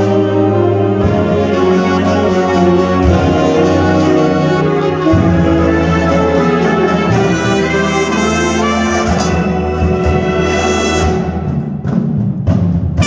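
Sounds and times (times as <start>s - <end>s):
trumpets and trombones playing: 0.0s - 11.9s
drums: 0.0s - 13.0s.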